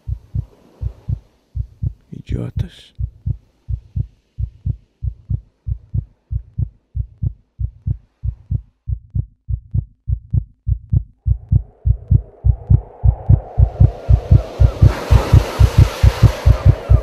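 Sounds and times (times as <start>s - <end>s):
heartbeat: 0.0s - 17.0s
low hum: 2.9s - 17.0s.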